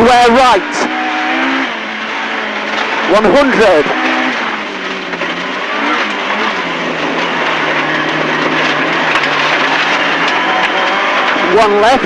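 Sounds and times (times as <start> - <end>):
rally car engine at full throttle: 0.0 - 12.0
road and tyre noise: 0.0 - 12.0.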